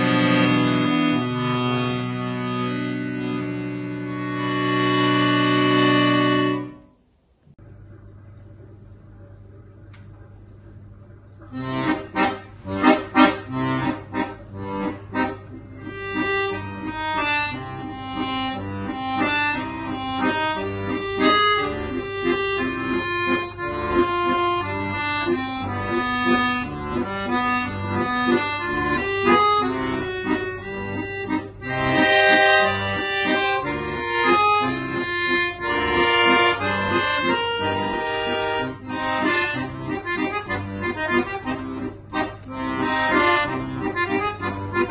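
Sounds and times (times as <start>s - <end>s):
solo instrumental melody: 0.0s - 7.6s, 11.4s - 44.9s.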